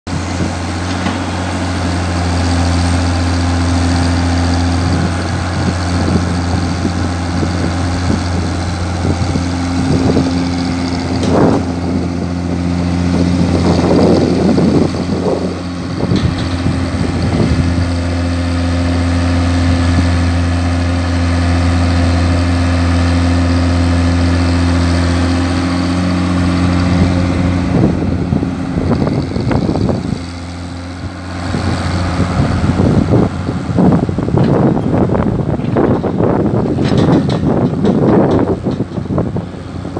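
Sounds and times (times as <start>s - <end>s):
excavator diesel engine running: 0.1s - 39.9s
excavator arm working: 0.2s - 39.9s.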